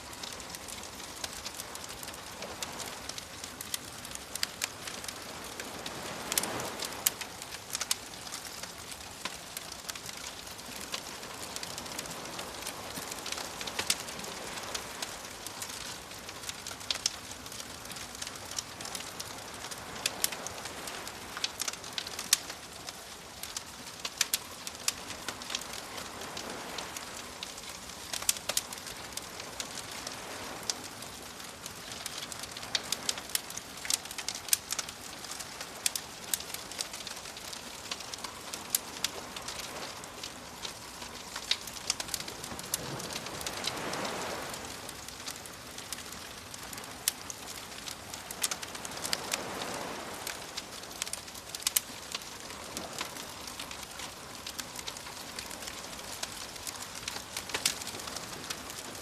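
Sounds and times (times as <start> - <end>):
gentle waves washing in: 0.0 - 59.0
wood fire crackling: 0.0 - 59.0.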